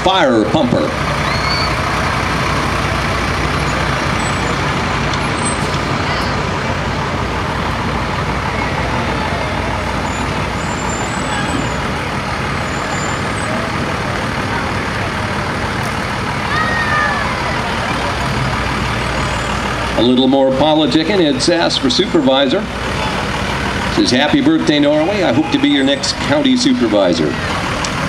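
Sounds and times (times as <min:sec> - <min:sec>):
fire truck rolling past: 0:00.0 - 0:28.0
pickup truck engine rumble: 0:00.0 - 0:28.0.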